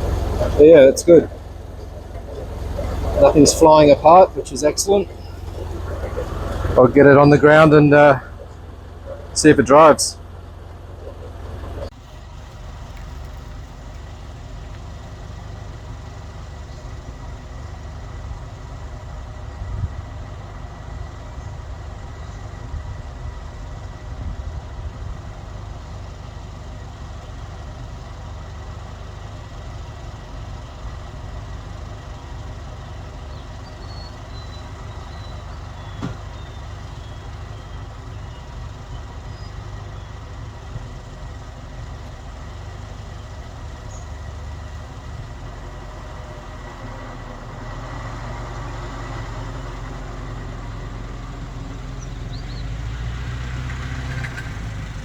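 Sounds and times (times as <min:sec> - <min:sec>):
car engine rumbling: 0:00.0 - 0:55.0.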